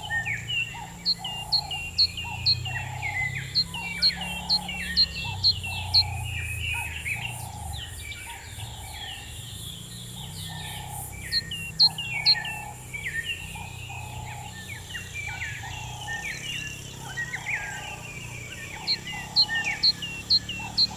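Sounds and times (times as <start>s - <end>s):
birds chirping and singing: 0.0s - 20.9s
lower bird call: 0.0s - 20.9s.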